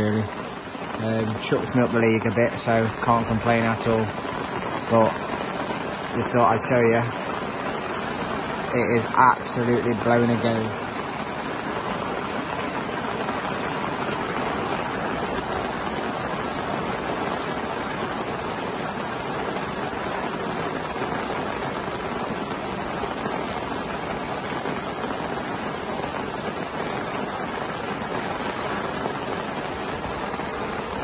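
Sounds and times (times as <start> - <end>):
gale-force wind: 0.0 - 31.0
heavy rain: 0.0 - 31.0.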